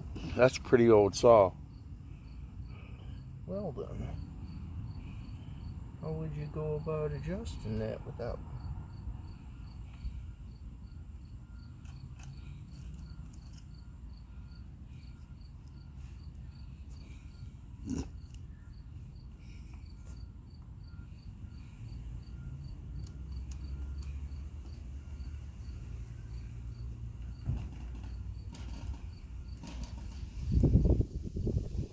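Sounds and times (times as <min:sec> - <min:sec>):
cricket chirping: 0:00.0 - 0:31.9.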